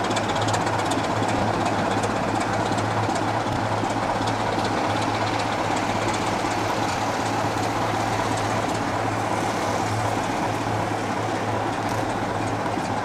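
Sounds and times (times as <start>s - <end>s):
diesel locomotive engine idling: 0.0s - 13.0s.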